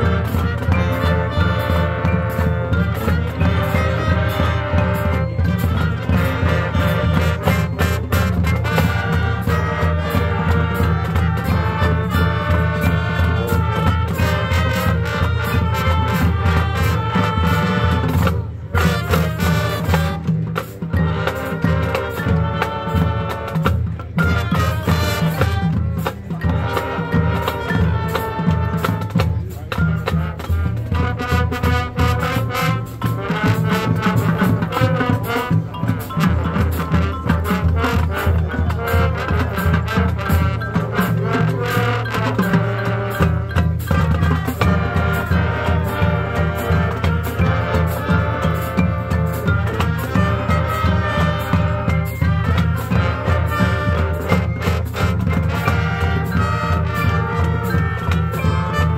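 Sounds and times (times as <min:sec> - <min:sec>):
brass chords: 0:00.0 - 0:58.9
steady drums: 0:00.0 - 0:58.9.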